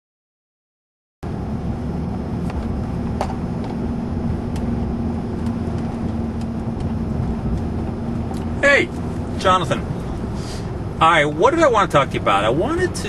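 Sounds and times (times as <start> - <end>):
car cabin rumble: 1.2 - 13.0.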